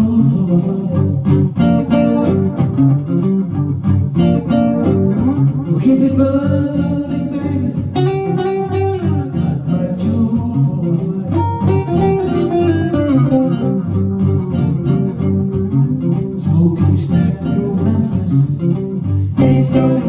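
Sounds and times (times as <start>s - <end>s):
blues guitar melody: 0.0s - 20.0s.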